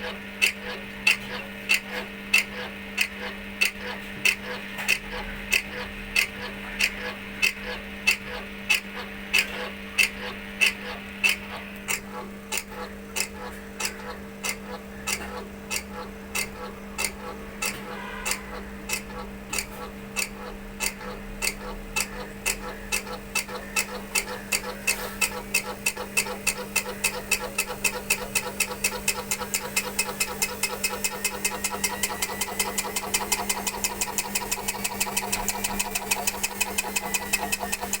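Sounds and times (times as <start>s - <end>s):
washing machine motor hum: 0.0s - 38.0s.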